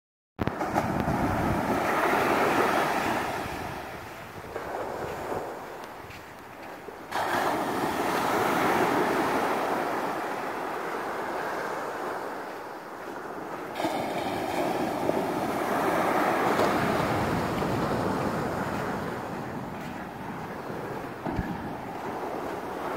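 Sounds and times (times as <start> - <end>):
ocean surf breaking: 0.4 - 22.9
wind buffeting microphone: 0.4 - 22.9.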